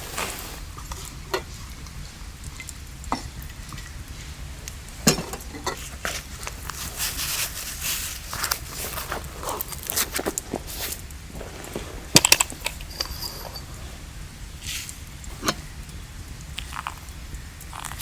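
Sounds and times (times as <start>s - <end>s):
sizzling and crackling: 0.0s - 18.0s.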